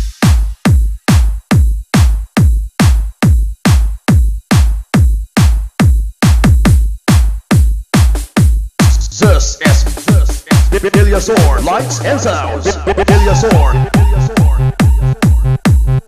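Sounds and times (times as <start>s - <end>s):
electronic kick drum booming: 0.0s - 16.0s.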